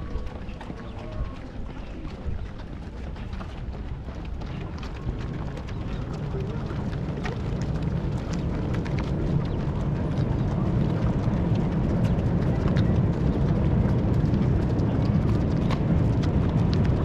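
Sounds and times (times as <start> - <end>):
runners' footfalls on road: 0.0 - 17.0
wind on microphone: 0.0 - 17.0.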